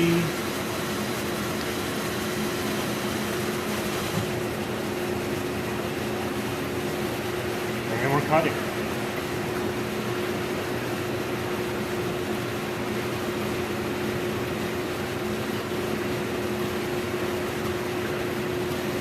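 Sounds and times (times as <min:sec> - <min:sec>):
machine hum with hiss: 0:00.0 - 0:19.0.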